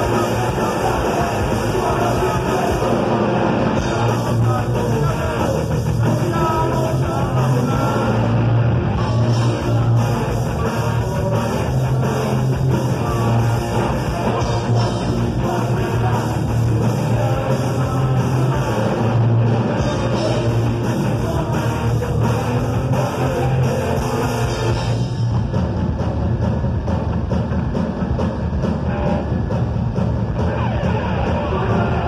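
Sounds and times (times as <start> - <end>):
bass guitar: 0.0 - 32.0
drum kit: 0.0 - 32.0
electric guitars: 0.0 - 32.0.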